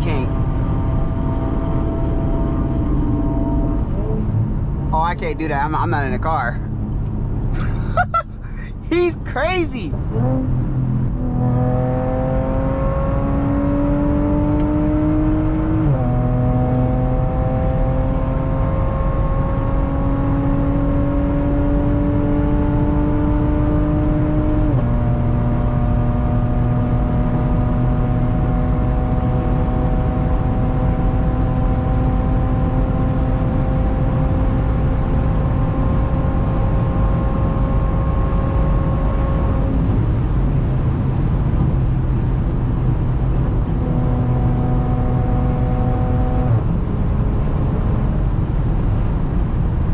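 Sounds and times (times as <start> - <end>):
car exhaust accelerating: 0.0 - 5.4, 9.9 - 49.9.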